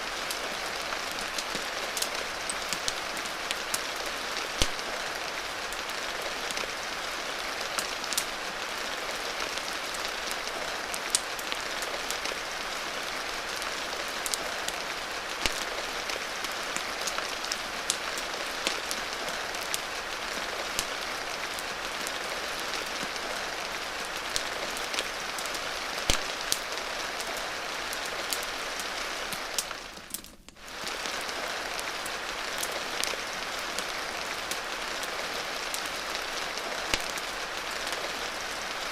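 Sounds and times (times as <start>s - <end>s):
steady rain: 0.0s - 38.9s
wood fire crackling: 0.0s - 38.9s.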